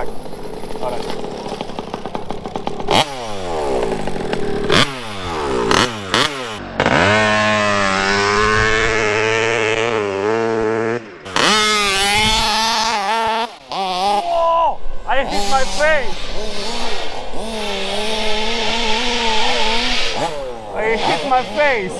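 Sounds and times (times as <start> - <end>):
rc car engine revving: 0.0 - 21.9.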